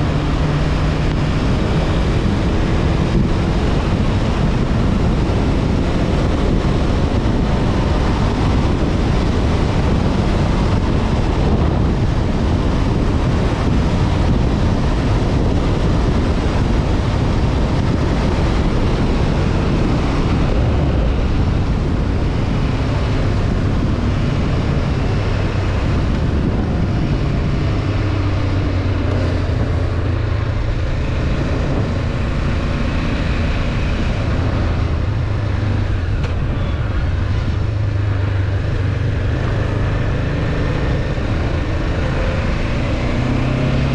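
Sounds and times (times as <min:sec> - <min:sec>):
motorcycle engine humming: 0:00.0 - 0:43.9
wind rush on microphone: 0:00.0 - 0:43.9.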